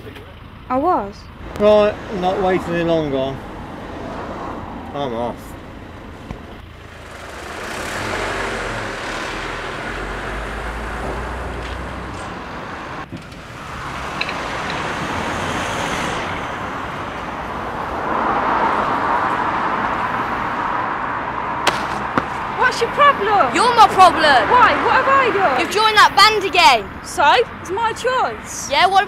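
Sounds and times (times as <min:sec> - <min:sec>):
cars driving past: 0:00.0 - 0:29.0
vehicle engine rumble: 0:00.0 - 0:29.0.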